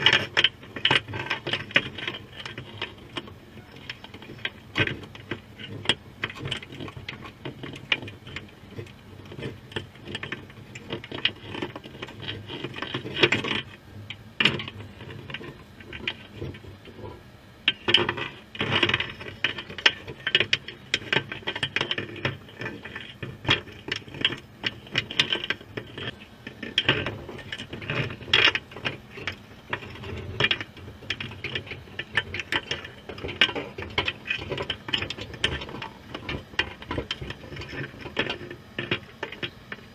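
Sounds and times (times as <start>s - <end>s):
underwater clicking and crackling: 0.0s - 39.9s.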